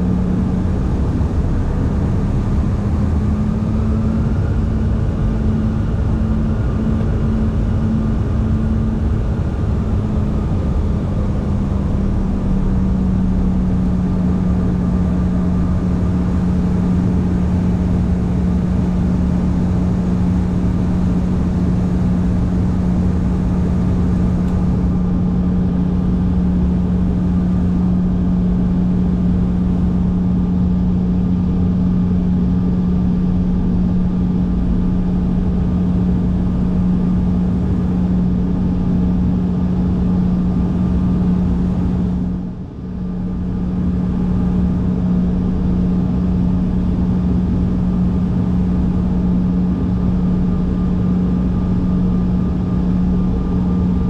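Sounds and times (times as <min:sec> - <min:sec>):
engine and airflow rush: 0:00.0 - 0:54.0
jet engine cabin hum: 0:00.0 - 0:54.0.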